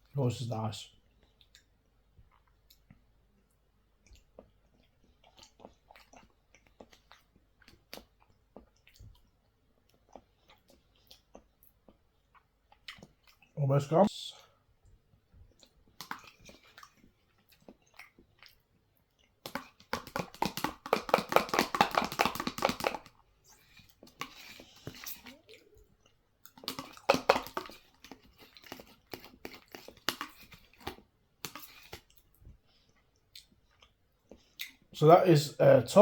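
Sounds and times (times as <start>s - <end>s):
chewing with wet mouth clicks: 1.1s - 13.6s, 14.8s - 35.0s.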